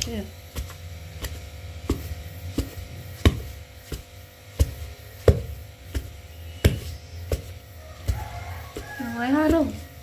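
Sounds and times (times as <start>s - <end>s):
low steady hum: 0.0s - 10.0s
pestle thudding in mortar: 0.0s - 10.0s.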